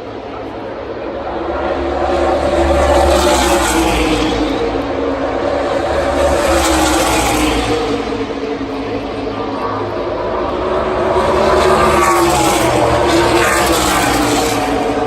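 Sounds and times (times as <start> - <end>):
racing car engines at full throttle: 0.0 - 15.0
racing cars passing by: 0.0 - 15.0.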